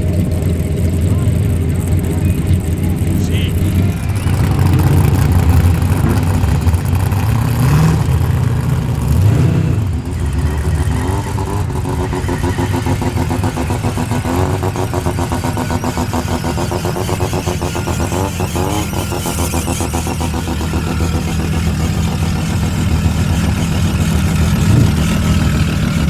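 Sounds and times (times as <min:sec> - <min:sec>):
drag car engine revving: 0:00.0 - 0:26.0.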